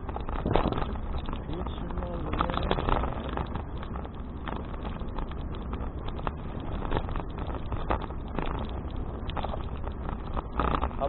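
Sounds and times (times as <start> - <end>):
bicycle clicks and rattles: 0.0 - 11.0
wind rumbling on microphone: 0.0 - 11.0.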